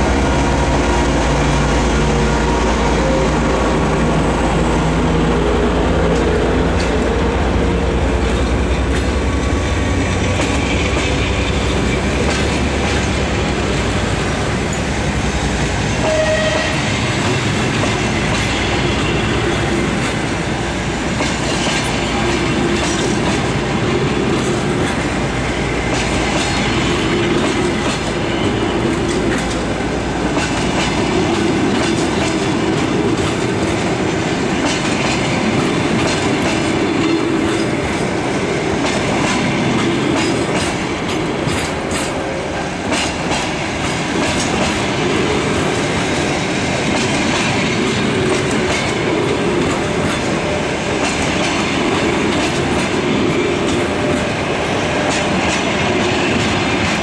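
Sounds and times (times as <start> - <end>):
diesel locomotive engine: 0.0 - 57.0
train wheels clicking on rail joints: 0.0 - 57.0.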